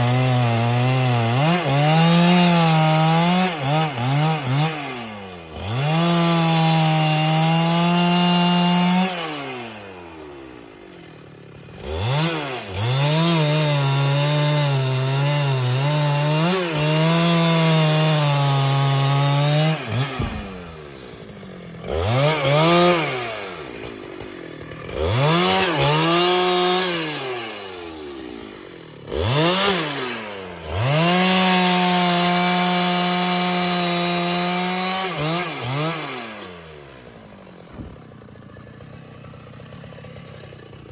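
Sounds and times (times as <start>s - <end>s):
chainsaw cutting wood: 0.0s - 40.9s
chainsaw revving: 0.0s - 40.9s.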